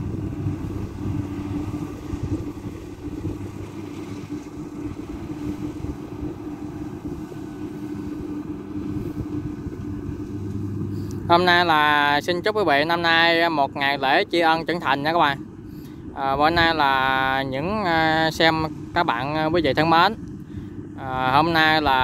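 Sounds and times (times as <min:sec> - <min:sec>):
combine harvester engine hum: 0:00.0 - 0:22.0.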